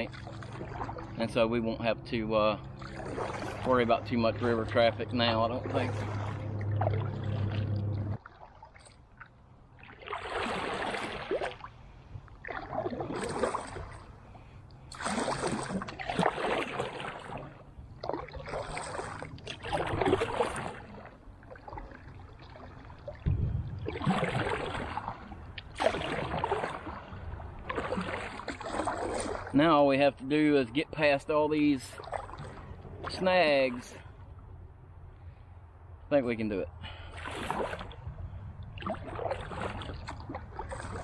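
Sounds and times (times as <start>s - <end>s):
kayak paddle splashing water: 0.0s - 29.6s, 31.7s - 34.3s, 36.8s - 41.0s.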